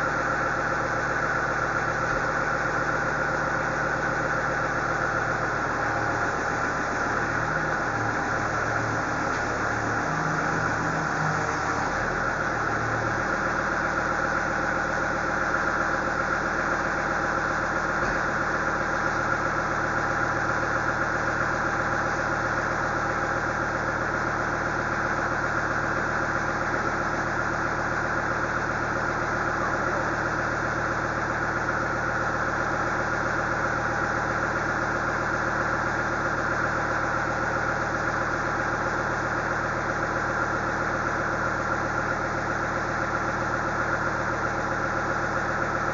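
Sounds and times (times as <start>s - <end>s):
loader engine idling: 0.0s - 45.9s.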